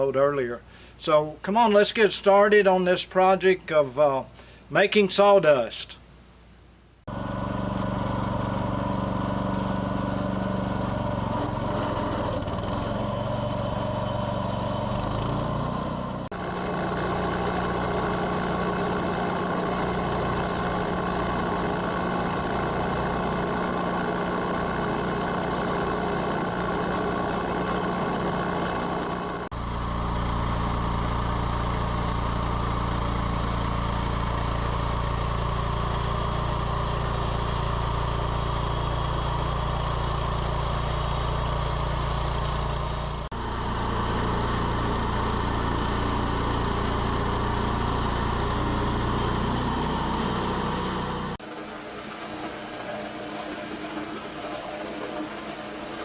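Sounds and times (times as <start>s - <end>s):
sawmill engine running: 7.1s - 56.0s.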